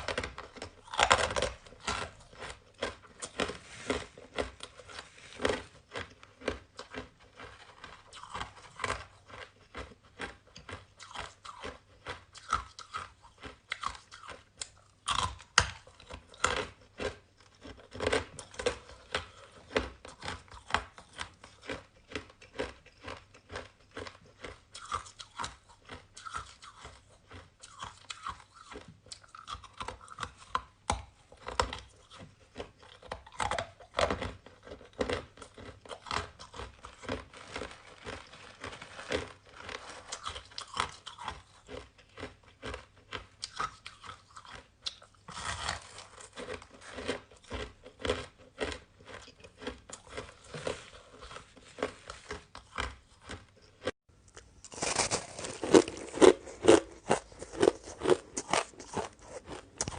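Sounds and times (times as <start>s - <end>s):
chewing crunchy shaved ice: 0.0s - 59.9s.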